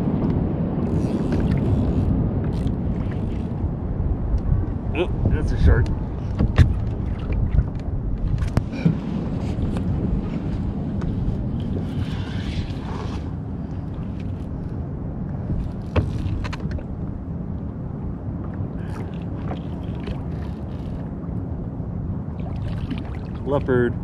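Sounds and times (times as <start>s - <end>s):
water moving around kayak: 0.0s - 24.0s
wind buffeting microphone: 0.0s - 24.0s.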